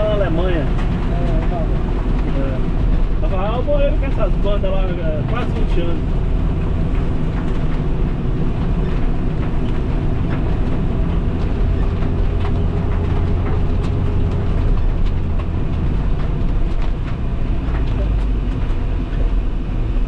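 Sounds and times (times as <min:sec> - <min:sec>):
engine and road drone: 0:00.0 - 0:20.0
rain pattering on windshield: 0:00.0 - 0:20.0.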